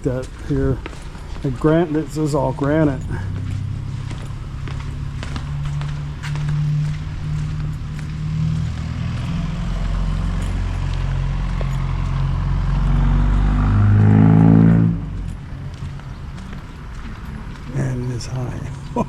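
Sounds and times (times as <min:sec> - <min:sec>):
passing vehicle engine: 0:00.0 - 0:19.0.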